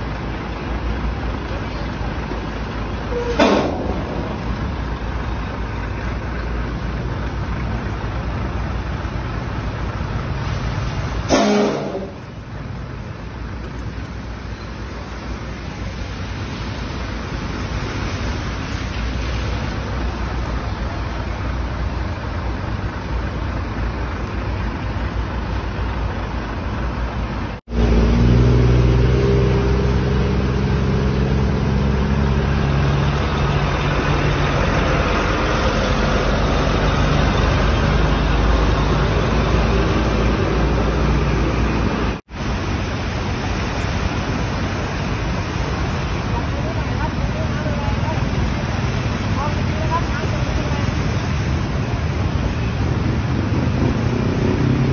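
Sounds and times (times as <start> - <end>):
water splashing: 0.0 - 26.5, 27.7 - 54.9
truck engine running: 0.0 - 54.9
tyres swishing through water: 0.0 - 54.9.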